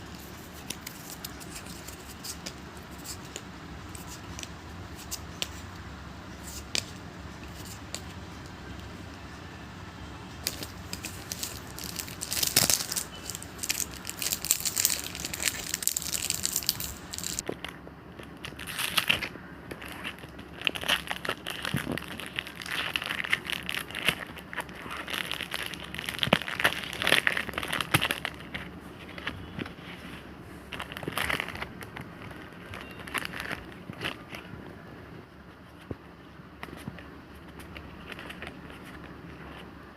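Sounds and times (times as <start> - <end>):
plastic and paper packaging crinkling: 0.0 - 5.6, 10.4 - 34.6, 36.6 - 39.7.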